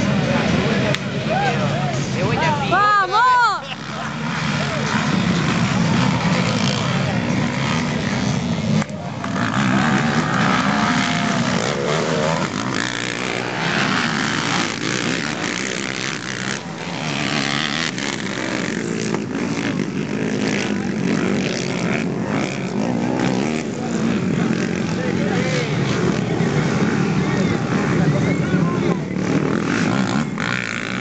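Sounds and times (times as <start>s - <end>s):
small quad engines revving: 0.0s - 31.0s.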